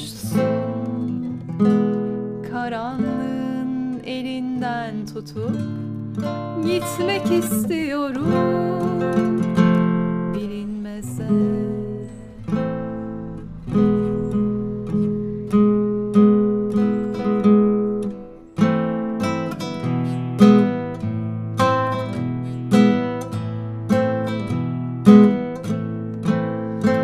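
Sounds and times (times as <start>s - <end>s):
classical guitar fingerpicking: 0.0s - 27.0s.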